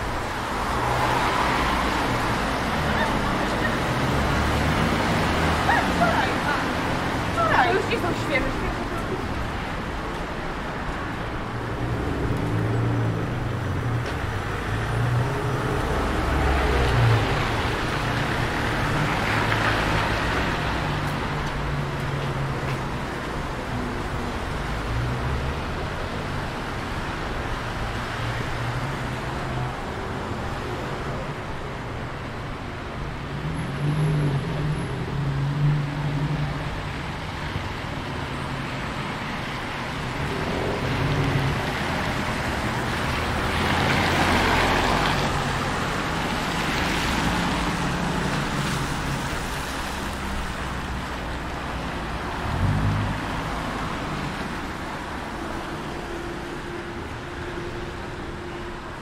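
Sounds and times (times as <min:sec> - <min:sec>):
cars passing on wet road: 0:00.0 - 0:59.0.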